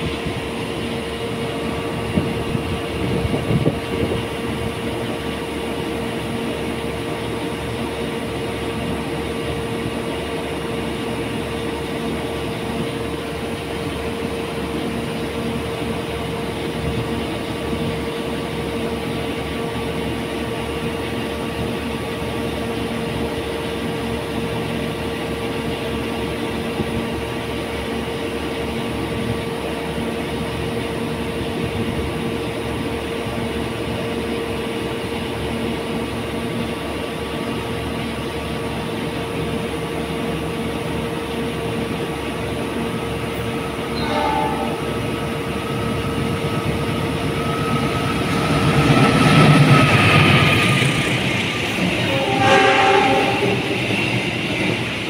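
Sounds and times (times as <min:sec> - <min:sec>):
train engine idling hum: 0:00.0 - 0:55.0.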